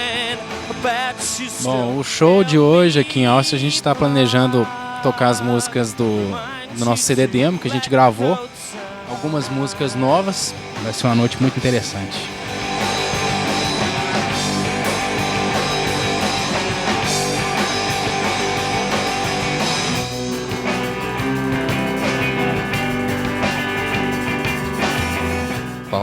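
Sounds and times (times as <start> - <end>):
rock music with electric guitar: 0.0 - 26.0.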